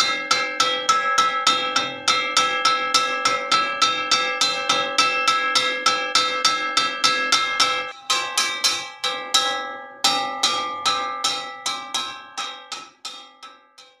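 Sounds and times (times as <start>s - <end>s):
metal wok ringing clangs: 0.0s - 14.0s.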